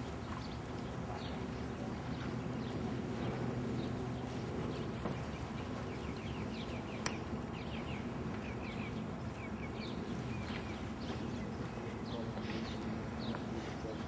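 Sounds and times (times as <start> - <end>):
songbird chirping: 0.0 - 14.0
steady low hum: 0.0 - 14.0.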